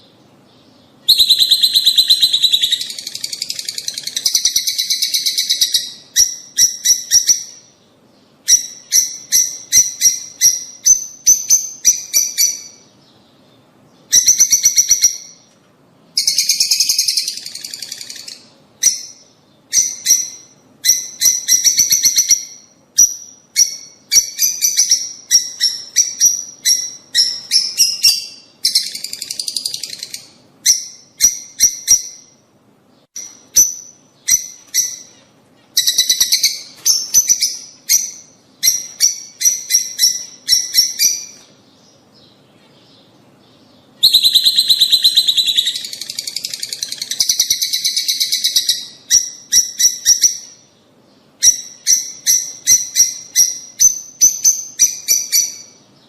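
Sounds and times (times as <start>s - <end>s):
lovebirds chirping and chattering: 0.0s - 56.0s.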